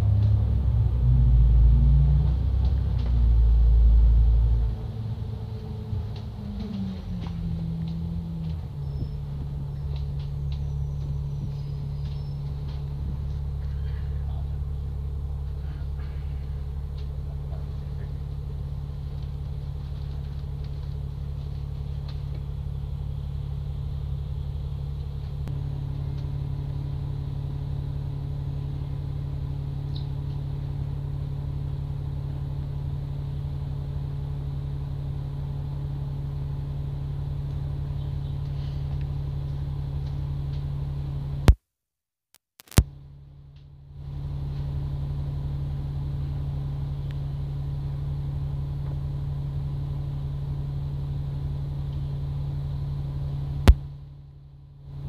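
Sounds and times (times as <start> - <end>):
bus engine droning: 0.0 - 41.6, 42.9 - 55.0
hum: 0.0 - 41.6, 42.6 - 55.0.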